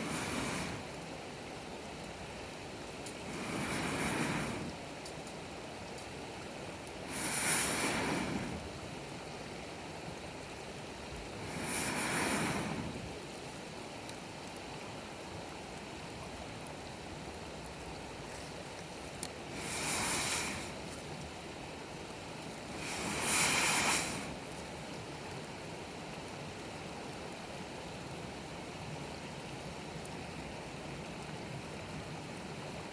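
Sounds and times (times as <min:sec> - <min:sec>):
steady background hiss: 0:00.0 - 0:32.9
waves washing onto shore: 0:00.0 - 0:32.9.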